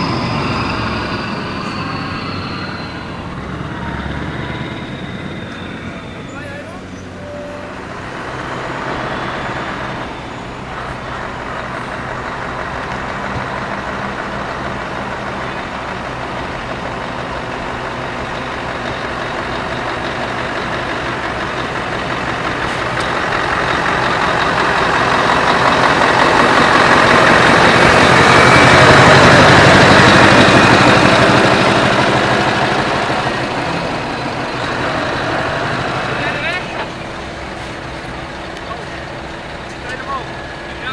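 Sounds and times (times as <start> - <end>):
truck diesel engines passing: 0.0 - 40.9.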